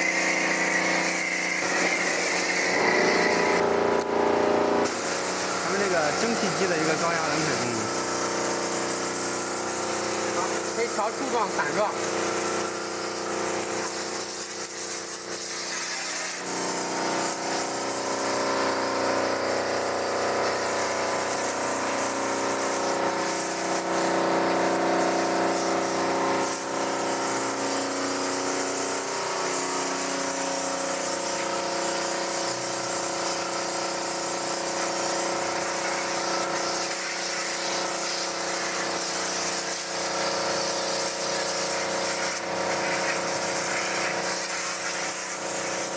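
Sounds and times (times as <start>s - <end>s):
pump motor hum: 0.0s - 45.9s
spray gun water hiss: 0.0s - 45.9s.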